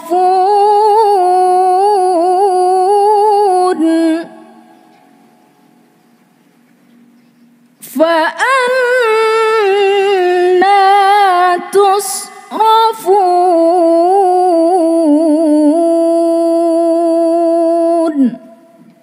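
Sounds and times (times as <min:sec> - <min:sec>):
woman chanting melodically: 0:00.0 - 0:04.9, 0:07.8 - 0:18.8.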